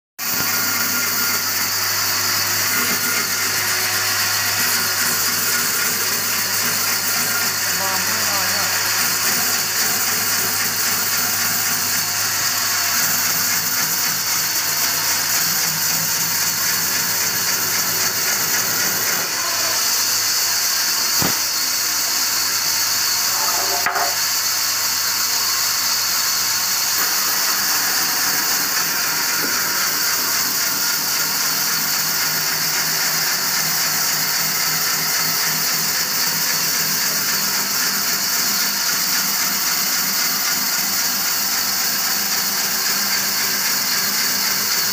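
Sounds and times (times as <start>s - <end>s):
band saw cutting wood: 0.2s - 44.9s.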